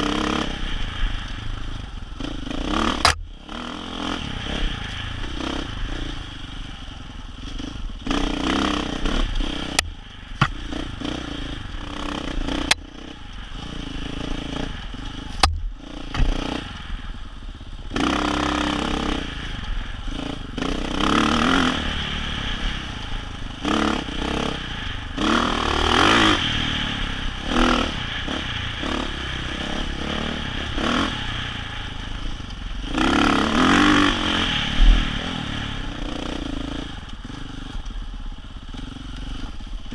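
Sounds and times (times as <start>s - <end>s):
dirt bike engine revving: 0.0s - 1.1s, 2.1s - 16.8s, 17.8s - 37.8s.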